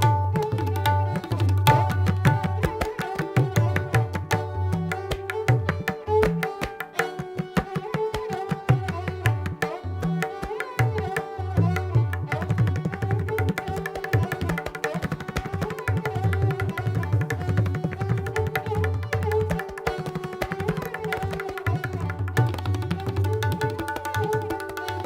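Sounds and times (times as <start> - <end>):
bowed string melody: 0.0 - 25.0
tabla rapid strokes: 0.0 - 25.0.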